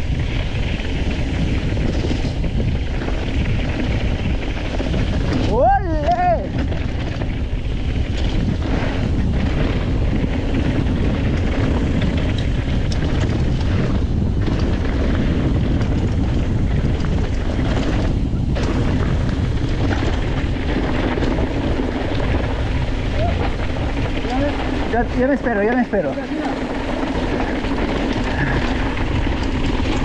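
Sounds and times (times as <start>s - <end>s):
bike tyres rolling on rough trail: 0.0s - 30.0s
wind buffeting microphone: 0.0s - 30.0s.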